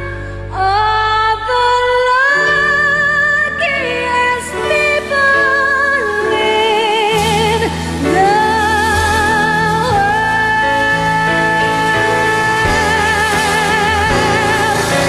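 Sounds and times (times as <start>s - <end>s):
instrumental backing: 0.0s - 15.0s
woman singing a slow ballad: 0.0s - 15.0s.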